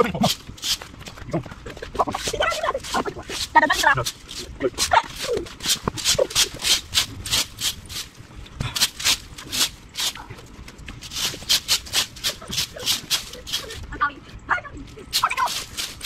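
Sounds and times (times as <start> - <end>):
rake scraping over ground: 0.0 - 1.2, 1.8 - 13.9, 15.1 - 16.0.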